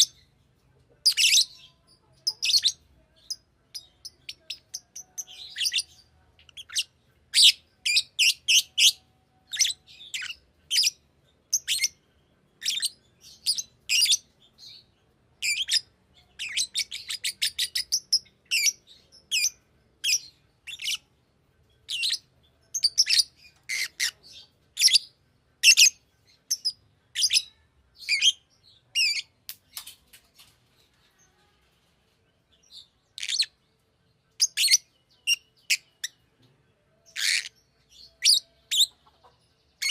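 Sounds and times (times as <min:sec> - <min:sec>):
lovebird chirping: 0:00.0 - 0:29.9, 0:32.3 - 0:39.9.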